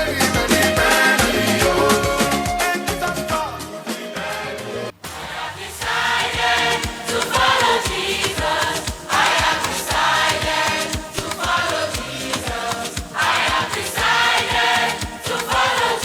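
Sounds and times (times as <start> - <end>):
choir singing over a beat: 0.0 - 2.4, 3.8 - 16.0.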